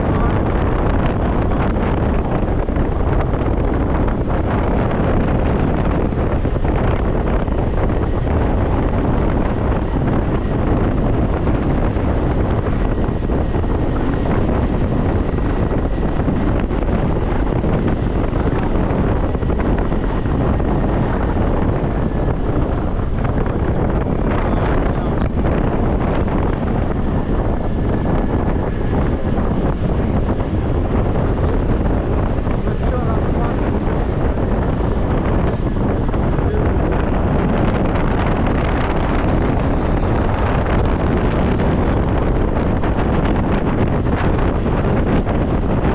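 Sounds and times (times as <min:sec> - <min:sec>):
scooter running and road noise: 0:00.0 - 0:45.9
wind rush on microphone: 0:00.0 - 0:45.9.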